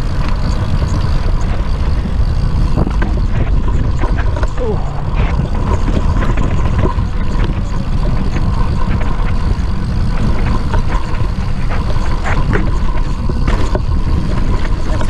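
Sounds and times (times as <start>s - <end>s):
bike knocks and rattles: 0.0s - 15.0s
bike tyres on dirt: 0.0s - 15.0s
wind buffeting microphone: 0.0s - 15.0s.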